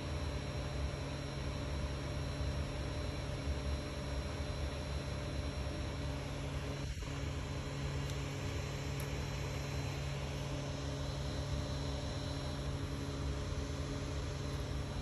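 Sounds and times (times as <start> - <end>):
cooling fans whirring: 0.0 - 15.0.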